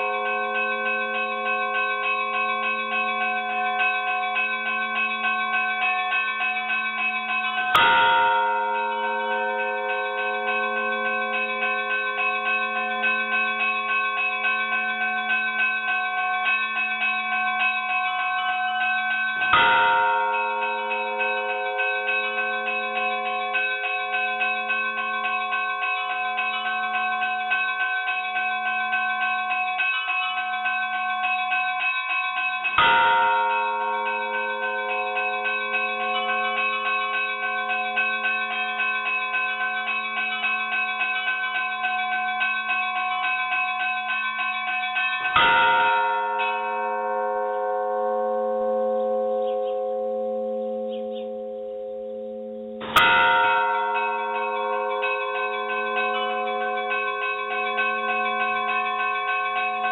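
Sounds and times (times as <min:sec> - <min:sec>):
large bell striking: 0:00.0 - 0:59.9
small church bells chiming: 0:00.0 - 0:59.9.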